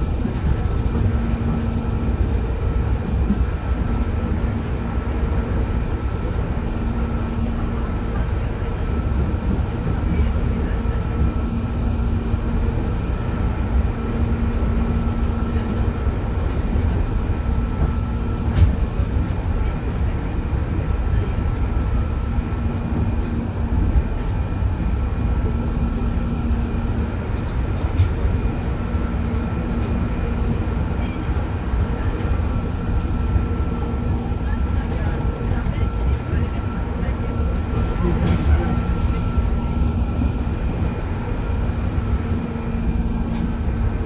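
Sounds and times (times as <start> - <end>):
electric train hum: 0.0 - 44.0
train wheels rumbling on rail: 0.0 - 44.0.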